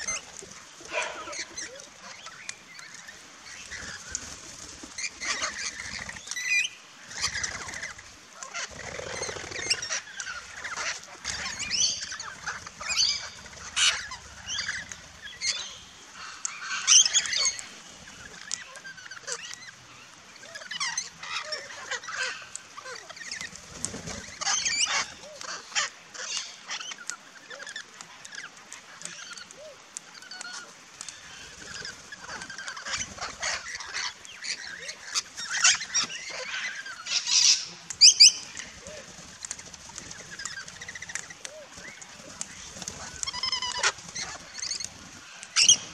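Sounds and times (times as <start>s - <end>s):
parrots calling and chattering: 0.0s - 4.2s, 5.0s - 45.9s.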